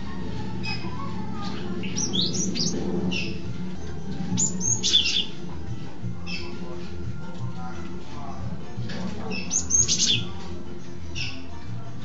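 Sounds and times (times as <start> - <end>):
bird chirping song: 0.0 - 11.8.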